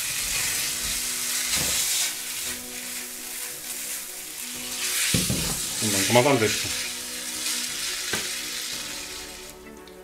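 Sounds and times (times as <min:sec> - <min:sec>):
food sizzling in a pan: 0:00.0 - 0:09.8.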